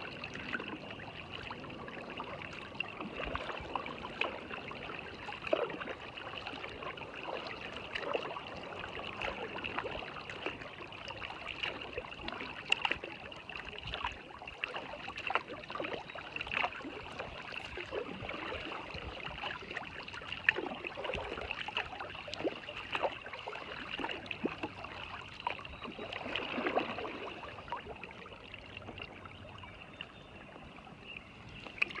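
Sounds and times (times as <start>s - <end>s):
rushing water: 0.0s - 32.0s
small water splashes and drips: 0.0s - 32.0s.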